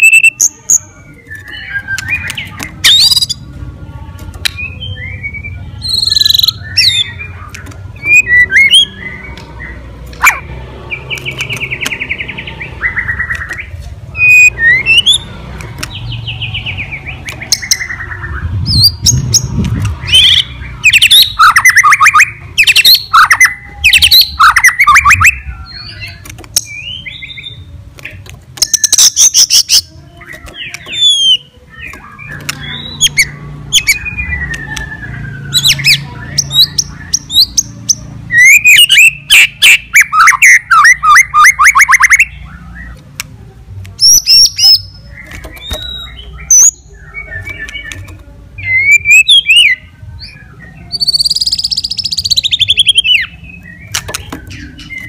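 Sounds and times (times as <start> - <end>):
bird singing loudly: 0.0 - 3.5, 4.6 - 15.3, 15.9 - 27.7, 28.6 - 43.0, 44.0 - 55.0.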